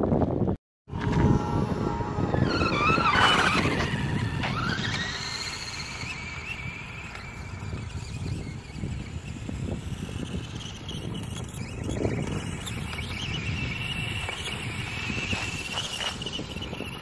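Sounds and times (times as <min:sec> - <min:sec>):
wind on microphone: 0:00.0 - 0:17.0
electric motor whining: 0:00.9 - 0:17.0.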